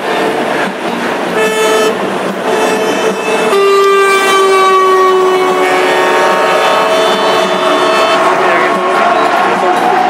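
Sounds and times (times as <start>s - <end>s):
truck engine noise: 0.0s - 10.0s
truck air horn blasts: 1.4s - 9.5s.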